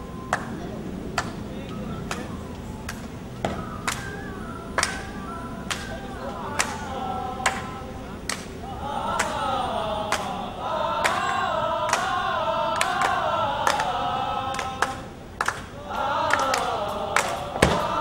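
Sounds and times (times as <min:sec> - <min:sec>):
group of voices singing: 0:00.0 - 0:18.0
sharp hand claps: 0:00.2 - 0:09.4, 0:10.1 - 0:10.4, 0:11.0 - 0:18.0.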